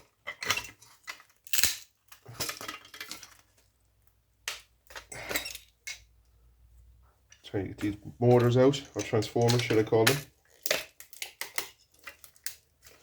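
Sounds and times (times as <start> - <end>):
metal clinking and scraping: 0.0 - 3.6, 4.9 - 6.1, 7.3 - 13.0.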